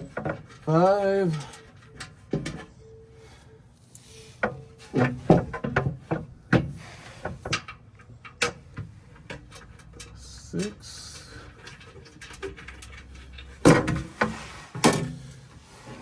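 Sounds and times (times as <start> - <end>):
metal knocks clanks and scraping: 0.0 - 3.0, 4.2 - 16.0.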